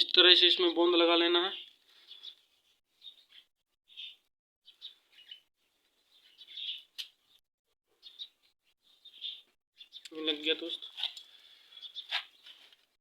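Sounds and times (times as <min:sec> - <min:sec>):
faint birds chirping: 0:01.3 - 0:13.0.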